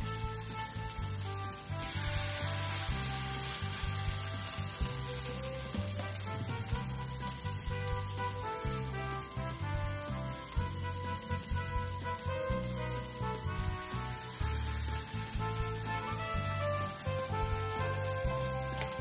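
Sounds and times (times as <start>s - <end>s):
background music: 0.0s - 19.0s
batter sizzling in a frying pan: 0.0s - 19.0s.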